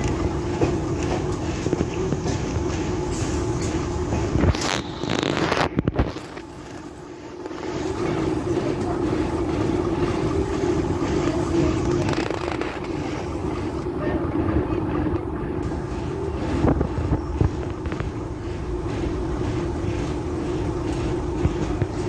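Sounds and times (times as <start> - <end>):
train running drone: 0.0 - 22.0.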